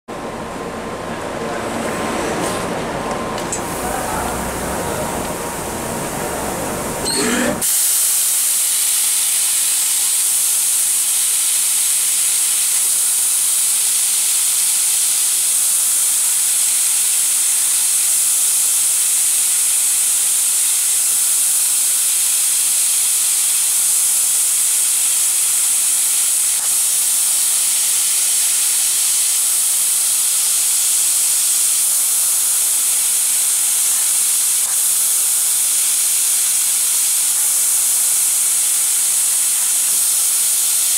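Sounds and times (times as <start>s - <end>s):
laser cutter gas hissing: 6.7s - 40.9s.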